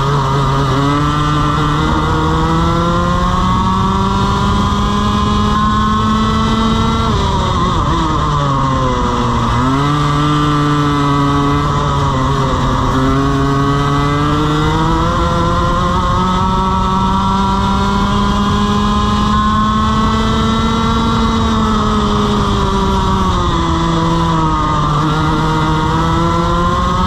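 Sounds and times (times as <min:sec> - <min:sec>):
two-stroke kart engine: 0:00.0 - 0:27.0.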